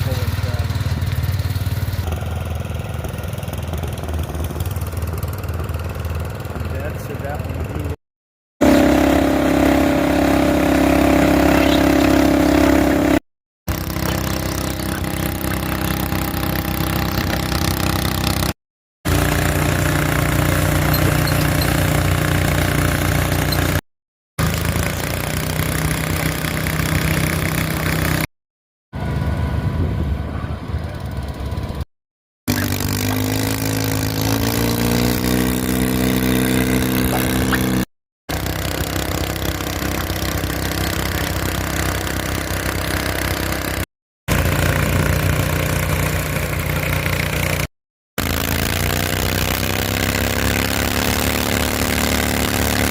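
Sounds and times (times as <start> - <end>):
lawn mower engines running: 0.0 - 8.0, 8.6 - 23.8, 24.4 - 28.3, 29.0 - 31.8, 32.5 - 52.9.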